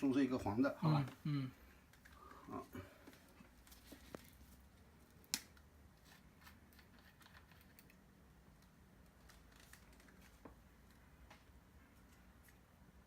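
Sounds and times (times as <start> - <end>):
small handling noises: 0.0 - 13.0.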